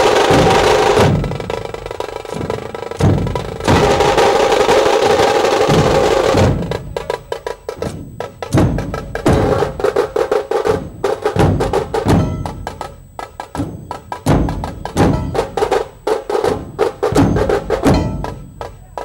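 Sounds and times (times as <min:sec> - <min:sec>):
deep drum beats: 0:00.0 - 0:19.0
snare drums rolling and striking: 0:00.0 - 0:19.0.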